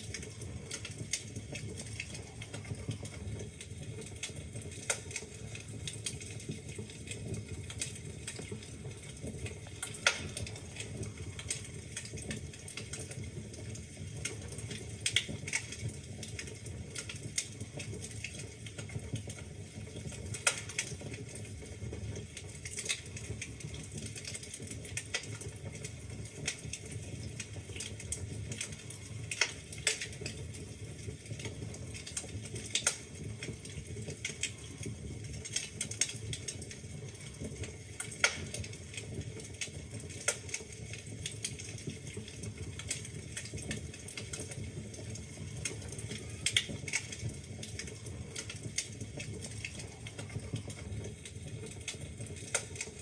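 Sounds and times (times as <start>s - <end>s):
low rush of burning: 0.0s - 53.0s
wood fire crackling and popping: 0.0s - 53.0s.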